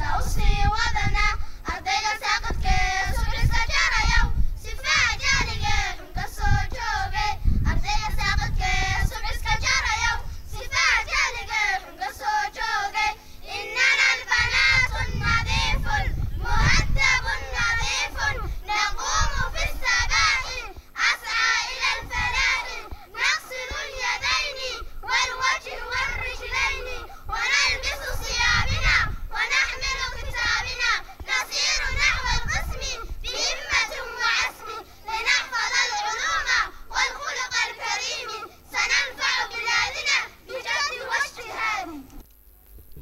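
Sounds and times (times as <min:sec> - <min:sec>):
girls singing through a pa: 0:00.0 - 0:42.2.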